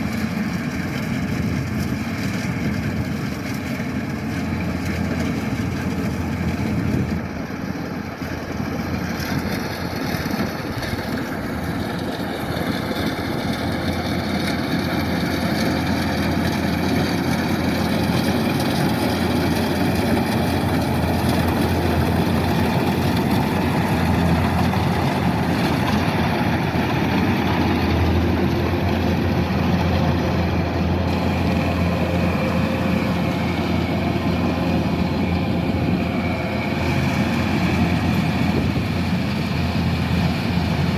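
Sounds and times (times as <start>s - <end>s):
diesel engine drone: 0.0s - 40.9s
machinery whirring: 1.8s - 40.9s.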